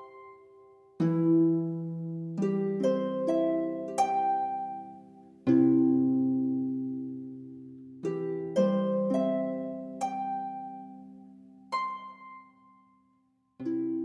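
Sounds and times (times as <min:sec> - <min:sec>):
chord: 0:00.0 - 0:14.0.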